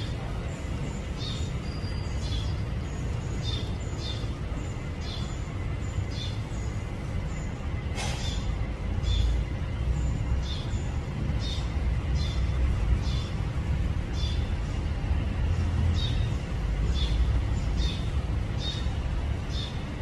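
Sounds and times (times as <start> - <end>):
small bird chirping: 0.0 - 13.4, 15.8 - 20.0.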